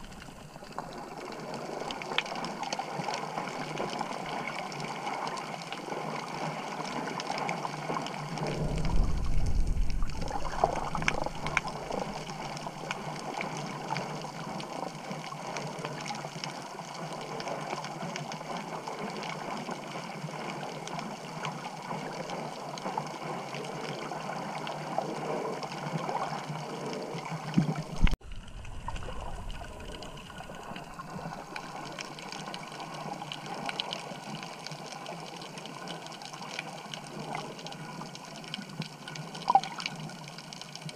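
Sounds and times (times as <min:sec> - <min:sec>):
low underwater rush: 0:00.0 - 0:16.6, 0:17.2 - 0:35.9
muffled underwater wash: 0:00.0 - 0:40.9.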